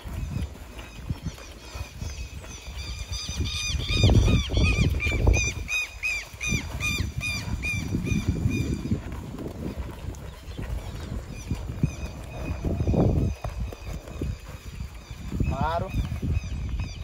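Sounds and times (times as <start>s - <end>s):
hooves thumping on sand: 0.0s - 17.0s.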